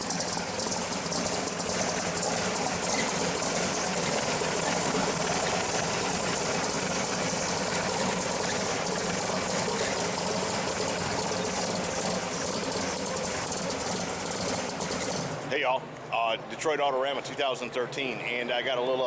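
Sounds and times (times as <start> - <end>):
v eight engine idling: 0.0 - 16.7.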